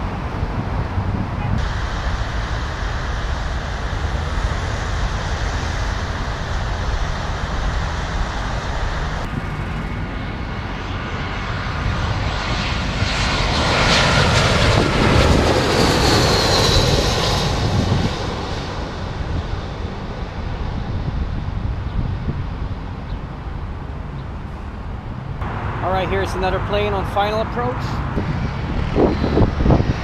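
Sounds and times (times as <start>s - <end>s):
jet airliner passing overhead: 0.0s - 30.0s
jet engine whine: 0.0s - 30.0s.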